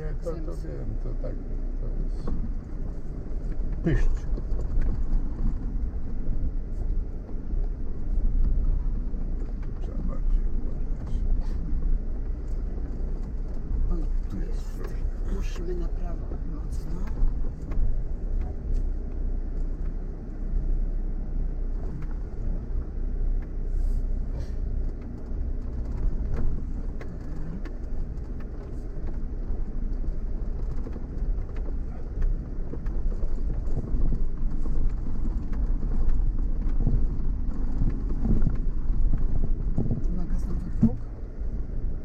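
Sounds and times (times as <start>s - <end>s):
vehicle engine and tyre rumble: 0.0s - 42.0s.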